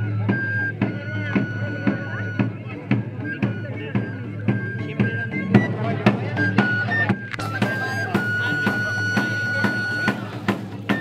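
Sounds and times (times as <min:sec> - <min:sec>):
steady drumbeat: 0:00.0 - 0:11.0.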